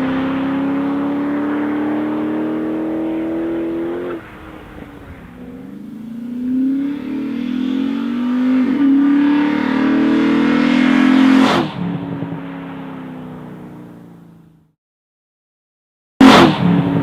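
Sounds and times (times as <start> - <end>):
car engine accelerating hard: 0.0 - 14.3.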